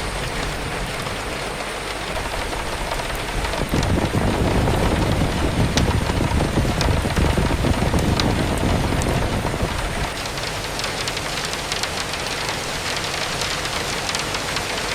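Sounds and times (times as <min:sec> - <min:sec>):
wind gust rumbling: 0:00.0 - 0:13.8
steady rain: 0:00.0 - 0:14.9.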